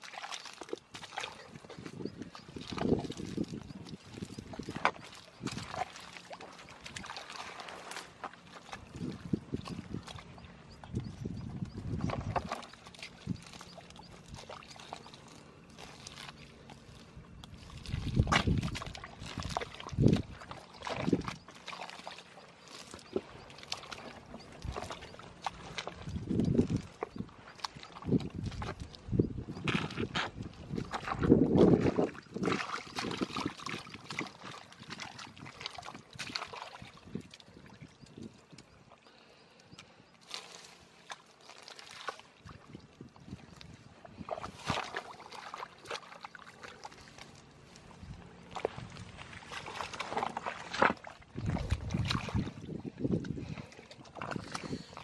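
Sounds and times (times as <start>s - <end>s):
splashy squelches: 0.0s - 55.0s
squelching through wet mud: 0.0s - 55.0s.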